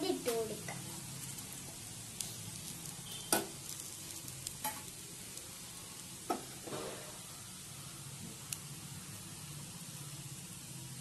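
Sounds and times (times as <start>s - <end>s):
clam meat sizzling in oil: 0.0s - 11.0s.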